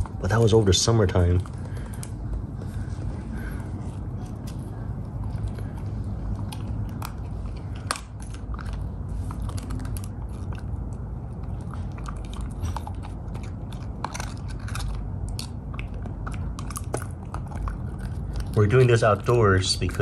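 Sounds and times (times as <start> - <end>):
puppy crunching a bone: 0.0 - 20.0.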